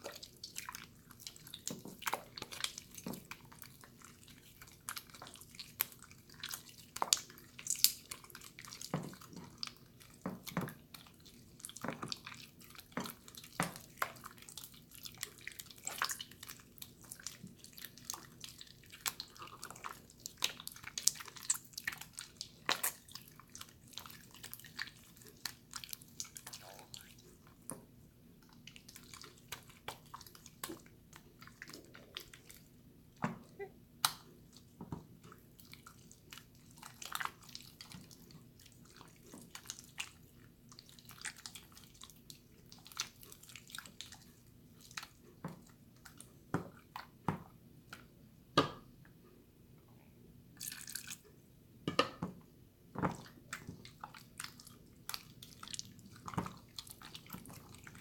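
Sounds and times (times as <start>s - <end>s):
slime squishing with wet pops: 0.0s - 49.2s, 50.5s - 58.0s.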